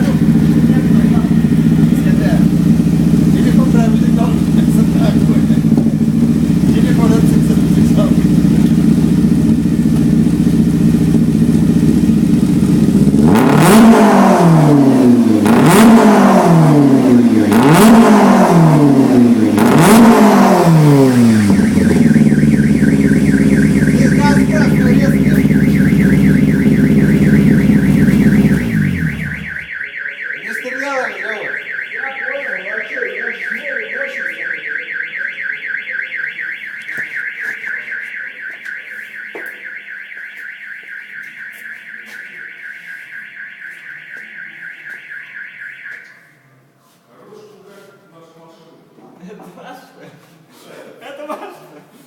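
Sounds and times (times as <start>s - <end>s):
car alarm siren: 0.0s - 46.6s.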